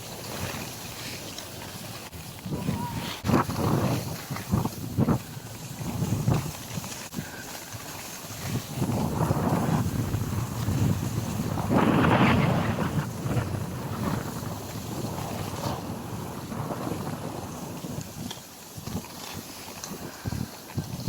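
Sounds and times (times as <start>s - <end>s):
wind buffeting microphone: 1.8s - 21.0s.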